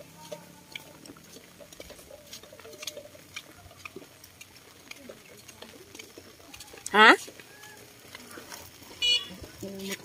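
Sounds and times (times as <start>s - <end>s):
footsteps on concrete: 0.0s - 10.0s.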